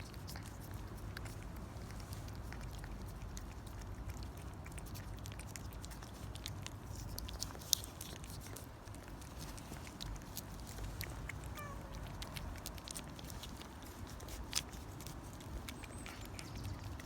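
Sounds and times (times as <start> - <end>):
cat chewing and licking: 0.0 - 17.0.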